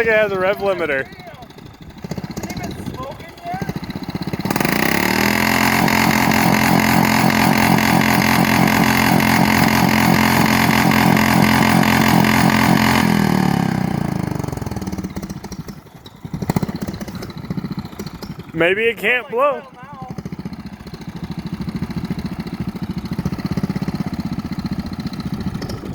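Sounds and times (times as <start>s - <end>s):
engine bouncing off rev limiter: 0.0s - 25.9s.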